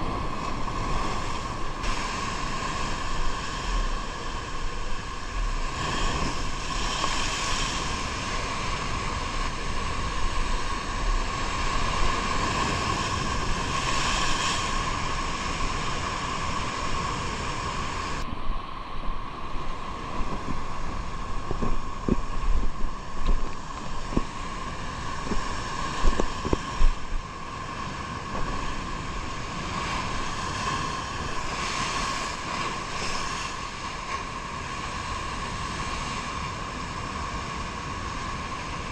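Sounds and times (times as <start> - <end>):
steady hum: 0.0 - 35.7
sea: 0.0 - 38.9
wind on microphone: 0.0 - 38.9.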